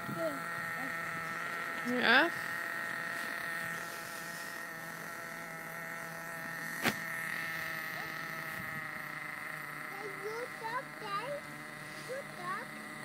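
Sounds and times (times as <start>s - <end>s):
small nitro engine buzzing: 0.0s - 13.0s.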